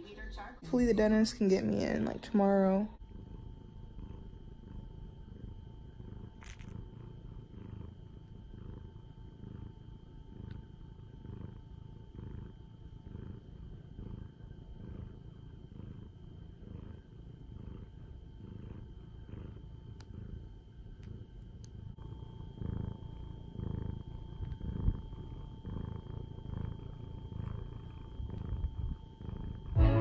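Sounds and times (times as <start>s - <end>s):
cat purring: 0.7s - 30.0s.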